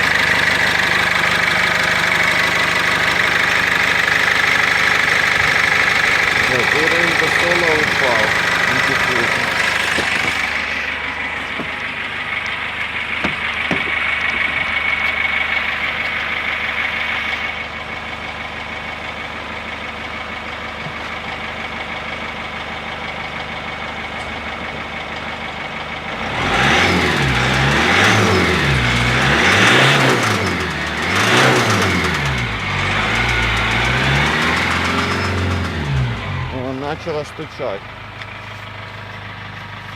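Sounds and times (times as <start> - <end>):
diesel engine idling: 0.0 - 39.9
diesel engine revving: 0.0 - 39.9.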